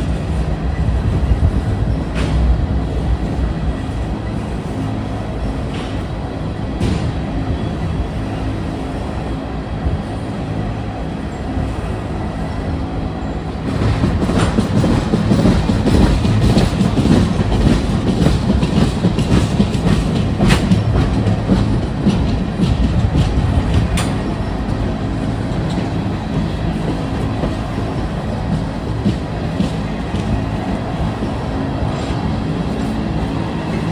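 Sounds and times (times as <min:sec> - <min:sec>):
train wheels clattering over rail joints: 0:00.0 - 0:08.6, 0:13.6 - 0:33.9.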